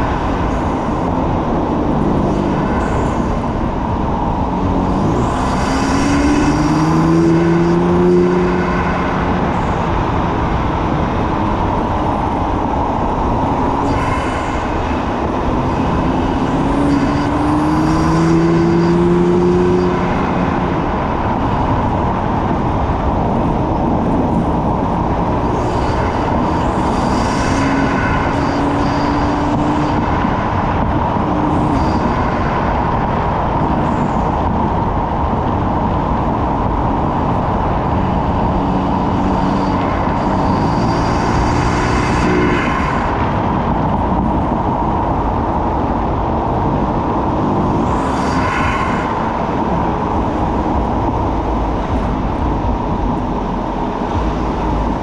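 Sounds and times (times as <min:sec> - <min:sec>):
car engine exhaust note: 0:00.0 - 0:55.0
road and wind noise: 0:00.0 - 0:55.0.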